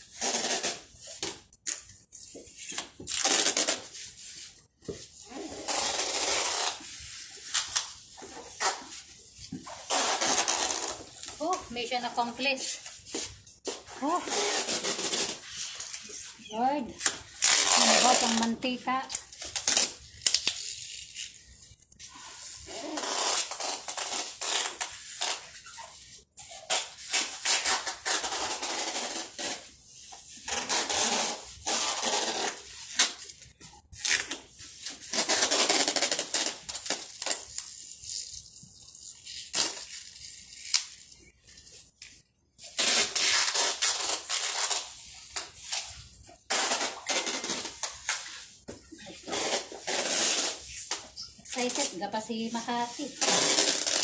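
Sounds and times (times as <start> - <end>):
packing tape pulled off roll: 0.0 - 54.0.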